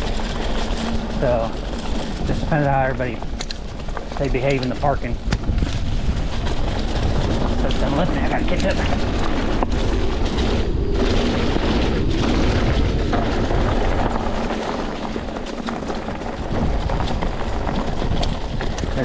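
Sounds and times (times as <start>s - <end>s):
bike rattling and knocking: 0.0s - 19.0s
bike tyre noise: 0.0s - 19.0s
wind buffeting microphone: 0.0s - 19.0s.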